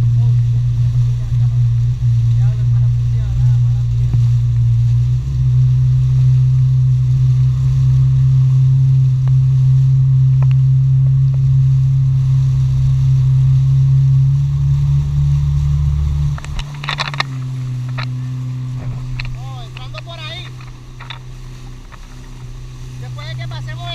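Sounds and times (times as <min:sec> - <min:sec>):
jet ski engine running: 0:00.0 - 0:23.9.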